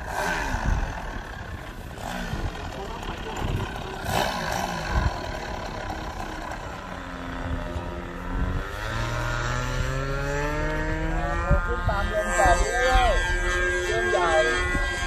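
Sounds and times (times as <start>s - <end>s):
model airplane propeller motor: 0.0s - 15.0s.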